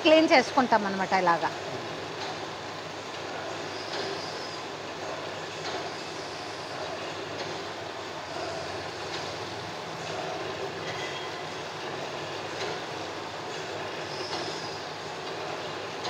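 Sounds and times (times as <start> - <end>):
machines clattering and humming: 0.0 - 16.0.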